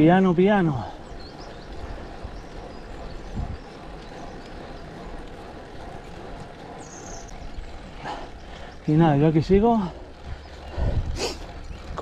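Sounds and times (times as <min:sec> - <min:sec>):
bike tyres on asphalt: 0:00.0 - 0:12.0
wind noise: 0:00.8 - 0:08.8, 0:09.4 - 0:12.0.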